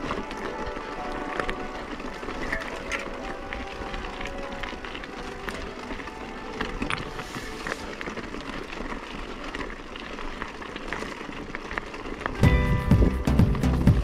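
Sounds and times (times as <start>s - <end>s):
bike clicks and rattles: 0.0s - 14.0s
steady rushing noise: 0.0s - 14.0s
tyres crunching on loose stones: 0.0s - 14.0s.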